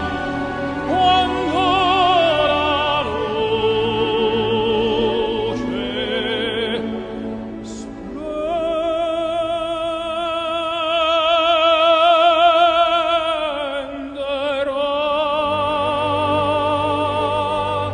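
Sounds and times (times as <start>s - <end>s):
operatic singing high voice: 0.0s - 17.9s.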